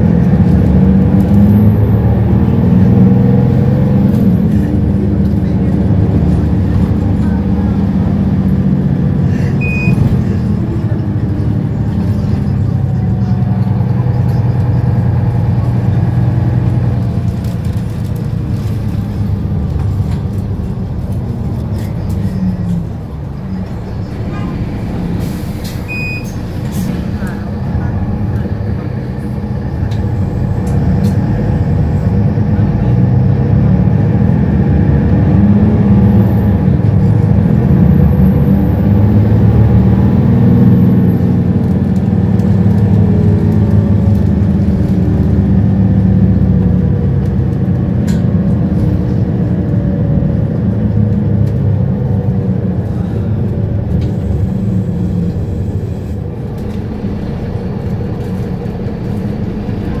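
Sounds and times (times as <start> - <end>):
bus diesel engine revving: 0.0 - 60.0.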